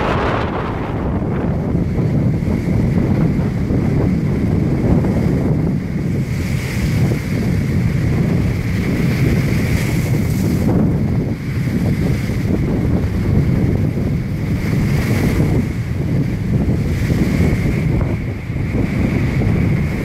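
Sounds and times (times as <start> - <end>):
waves breaking against wall: 0.0 - 20.0
wind buffeting microphone: 0.0 - 20.0.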